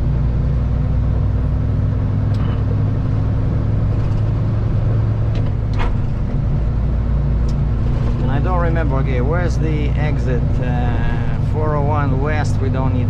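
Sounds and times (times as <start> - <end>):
road noise: 0.0 - 13.0
truck diesel engine droning: 0.0 - 13.0.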